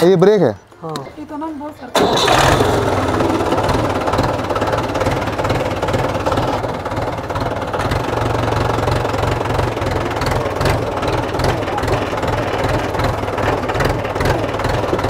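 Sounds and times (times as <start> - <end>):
tractor diesel engine idling: 1.9 - 15.0.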